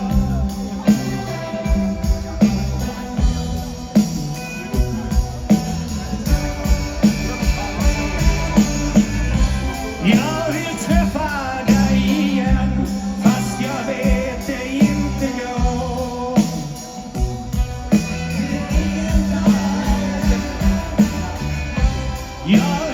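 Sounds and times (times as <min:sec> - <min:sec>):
drum beat: 0:00.0 - 0:22.9
rock band playing: 0:00.0 - 0:22.9
wavering lead guitar lines: 0:00.0 - 0:22.9.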